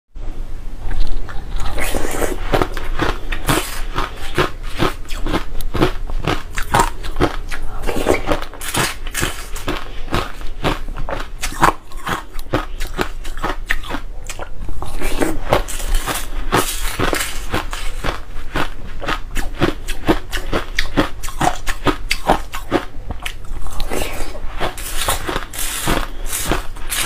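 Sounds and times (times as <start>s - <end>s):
ice crunching while chewed: 0.9s - 27.0s.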